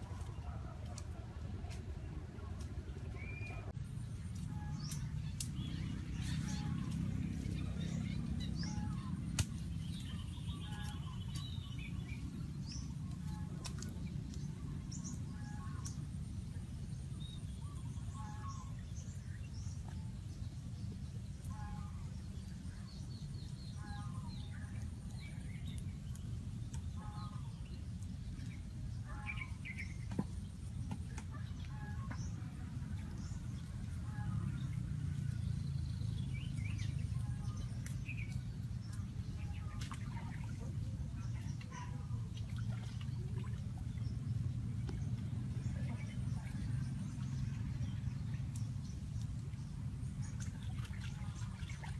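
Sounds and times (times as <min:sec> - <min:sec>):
low background rumble: 0:00.0 - 0:51.9.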